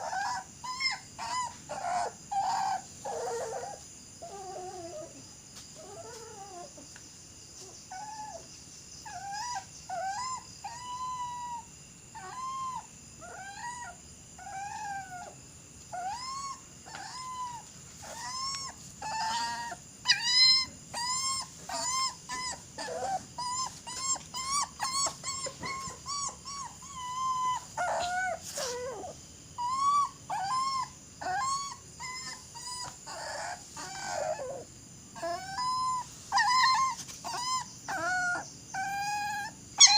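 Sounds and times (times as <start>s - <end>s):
dog whining and howling: 0.0s - 5.2s, 5.8s - 6.9s, 7.6s - 39.9s.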